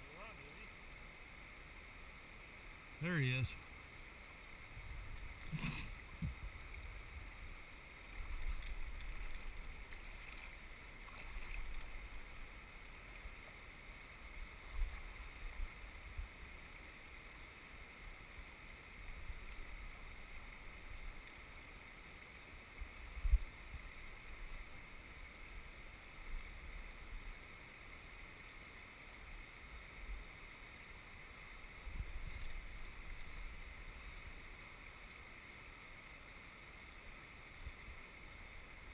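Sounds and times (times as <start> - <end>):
flowing river: 0.0 - 38.9.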